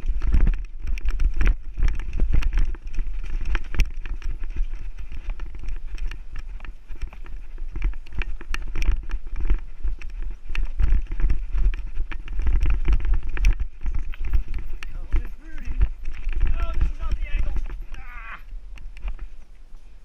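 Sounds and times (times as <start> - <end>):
bike rattling with sharp knocks: 0.0 - 18.3
bike tyres over dirt and roots: 0.0 - 20.0.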